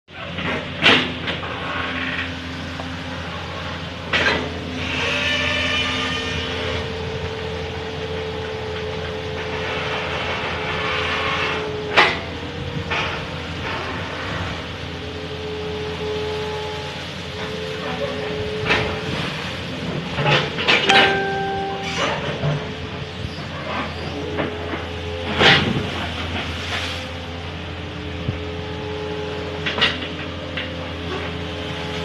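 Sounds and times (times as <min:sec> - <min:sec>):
excavator engine humming: 0:06.3 - 0:32.0.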